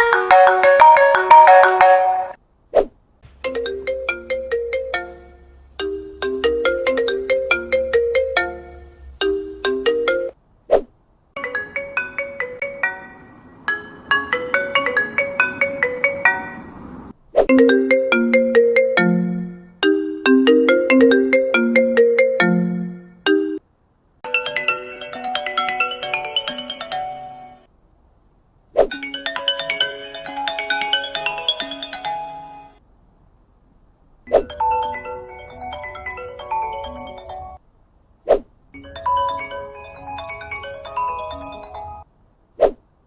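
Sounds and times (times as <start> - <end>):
phone ringtone melodies: 0.0 - 2.4, 3.4 - 10.4, 11.4 - 23.6, 24.3 - 27.7, 28.9 - 32.8, 34.4 - 37.6, 38.8 - 42.0.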